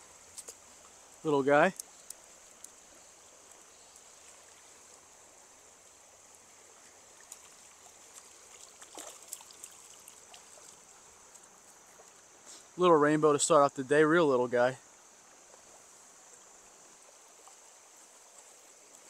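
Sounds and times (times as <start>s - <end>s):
stream trickling: 0.0s - 19.0s.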